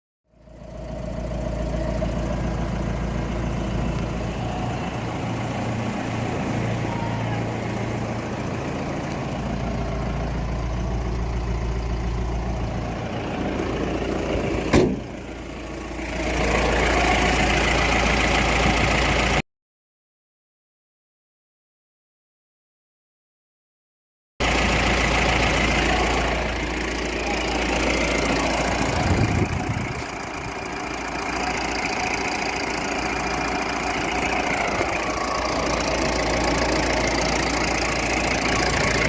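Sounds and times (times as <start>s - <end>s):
diesel engine idling: 0.3s - 19.4s, 24.4s - 39.0s.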